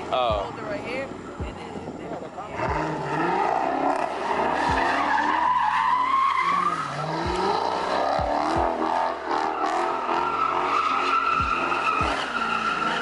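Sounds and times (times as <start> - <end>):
car engine running hard: 0.0 - 13.0
tires squealing: 1.8 - 13.0.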